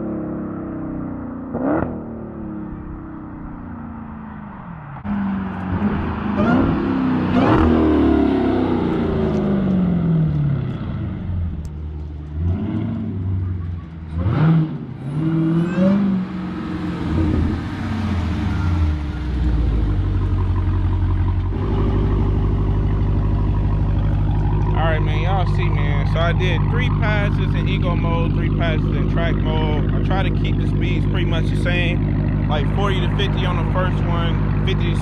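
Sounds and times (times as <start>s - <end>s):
car engine accelerating hard: 0.0s - 35.0s
car engine idling: 2.1s - 15.0s, 16.1s - 35.0s.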